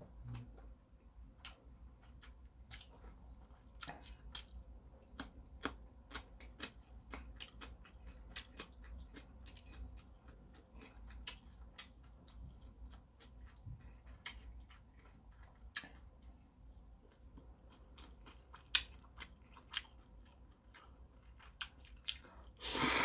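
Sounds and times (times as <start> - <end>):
man chewing noodles: 0.3 - 23.0.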